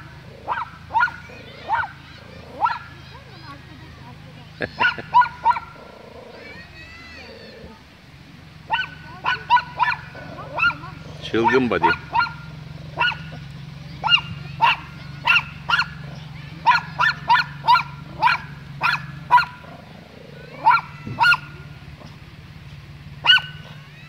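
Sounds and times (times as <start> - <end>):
small dog yapping: 0.0 - 3.5, 4.6 - 7.8, 8.6 - 22.2, 23.2 - 24.0.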